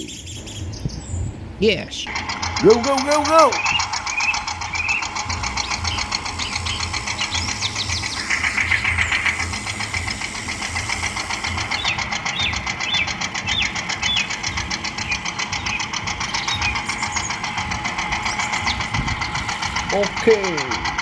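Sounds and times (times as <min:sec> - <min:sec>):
birds chirping: 0:00.0 - 0:21.0
small engine puttering: 0:00.0 - 0:21.0.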